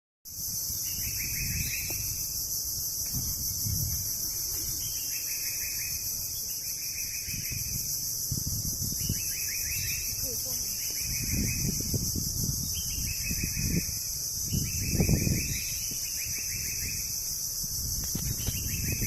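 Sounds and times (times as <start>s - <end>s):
high-pitched insect drone: 0.3s - 19.0s
pulsed insect trill: 0.3s - 19.0s.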